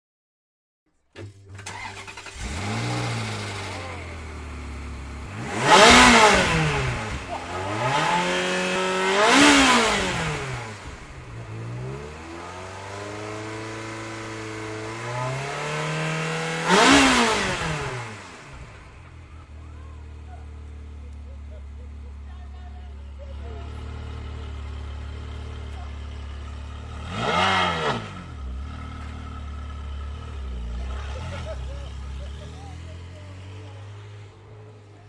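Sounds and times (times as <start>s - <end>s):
car engine idling and revving: 1.2s - 35.0s.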